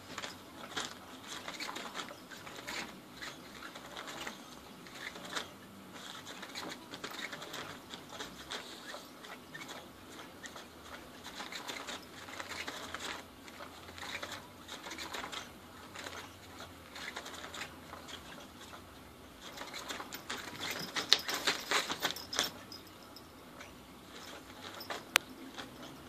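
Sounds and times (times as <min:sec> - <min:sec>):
toy wand scratching under fabric: 0:00.0 - 0:26.0.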